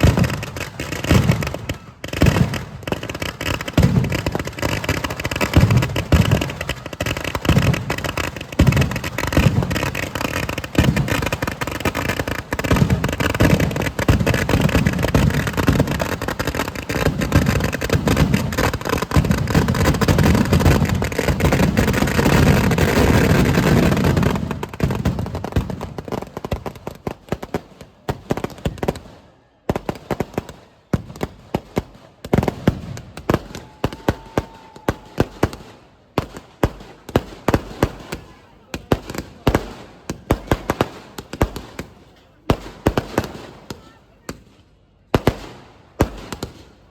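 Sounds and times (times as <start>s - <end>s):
firecracker bangs: 0.0s - 26.1s, 29.8s - 43.9s.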